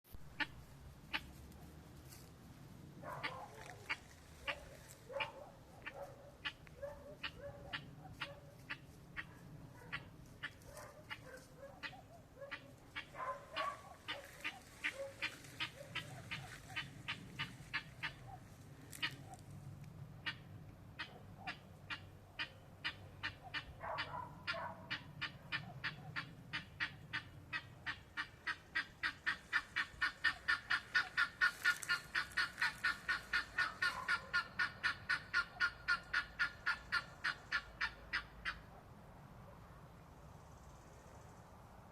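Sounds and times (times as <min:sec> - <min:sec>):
guinea fowl calling: 0:00.2 - 0:02.3, 0:03.0 - 0:38.8.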